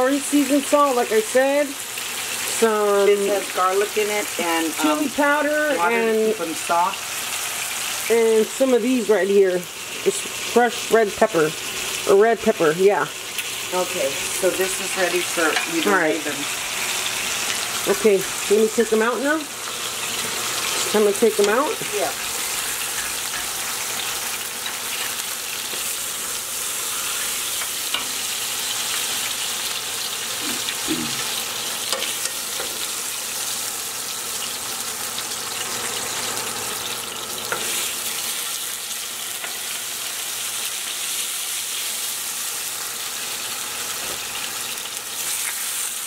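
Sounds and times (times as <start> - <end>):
meat sizzling in a pan: 0.0 - 46.0.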